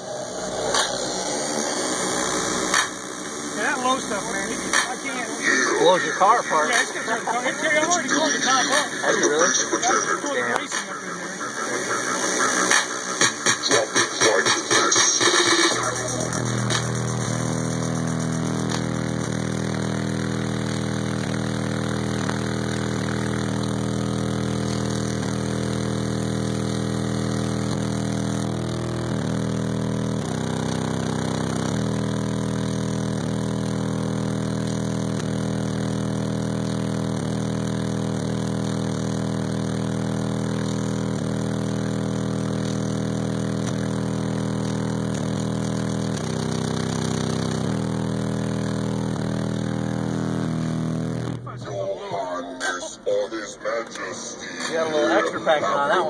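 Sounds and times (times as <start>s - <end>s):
subwoofers playing low bass drone: 0.0s - 53.6s.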